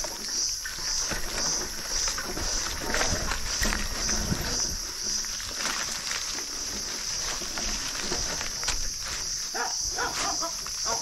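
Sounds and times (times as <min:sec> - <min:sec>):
bike tyres rolling over leaves: 0:00.0 - 0:11.0.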